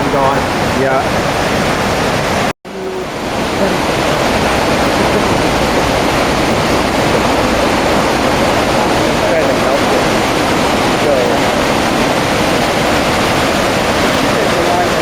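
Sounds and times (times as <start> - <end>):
whitewater rapids roaring: 0.0 - 15.0.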